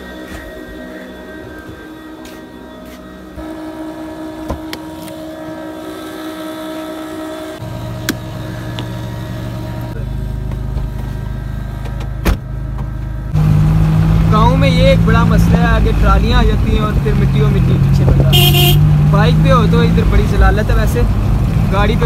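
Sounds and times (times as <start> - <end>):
car engine idling: 3.2 - 22.0.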